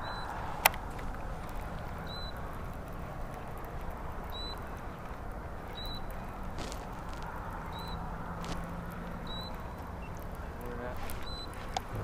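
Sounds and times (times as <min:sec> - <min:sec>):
faint clicks: 0:00.0 - 0:12.0.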